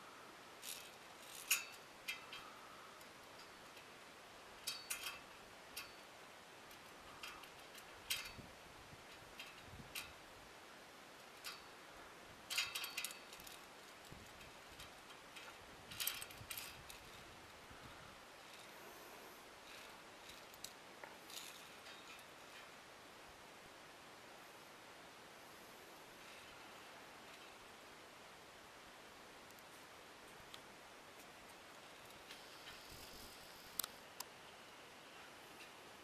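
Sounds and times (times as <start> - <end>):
faint hiss: 0.0 - 36.0
metallic clicks of climbing gear: 0.6 - 10.3, 11.1 - 22.9, 26.2 - 27.8, 29.4 - 34.4, 35.0 - 36.0.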